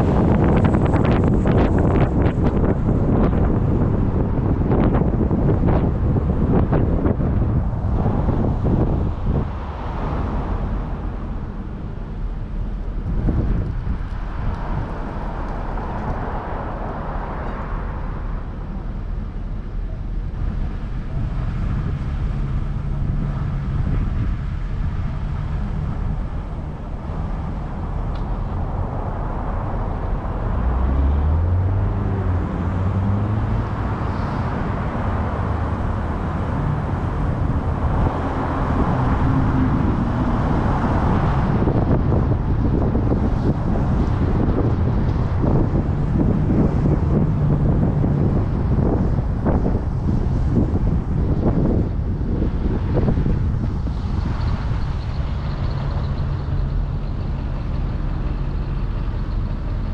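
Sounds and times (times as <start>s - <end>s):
cars passing with tyre hiss: 0.0s - 59.9s
low traffic rumble: 0.0s - 59.9s.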